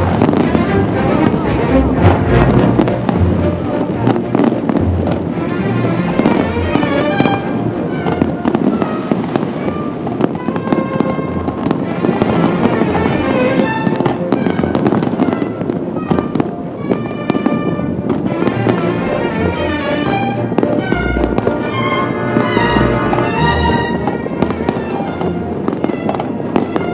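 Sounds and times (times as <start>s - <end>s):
fireworks bangs: 0.0s - 26.9s
music playing: 0.0s - 26.9s.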